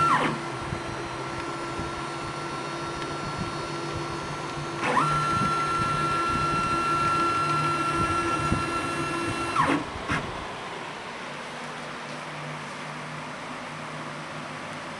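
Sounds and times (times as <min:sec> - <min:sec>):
motor whine: 0:00.0 - 0:14.9.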